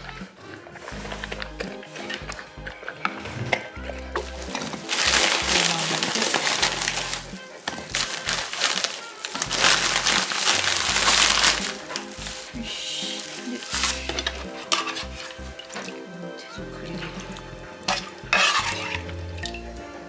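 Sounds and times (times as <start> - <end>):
plastic bag rustling: 0.0 - 16.2
background music: 0.0 - 20.0.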